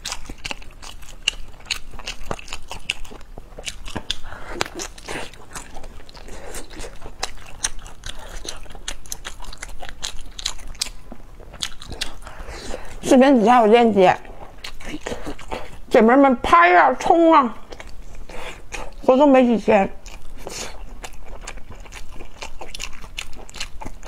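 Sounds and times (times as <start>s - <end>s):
person chewing food: 0.0s - 15.9s, 17.6s - 19.1s, 20.0s - 24.0s.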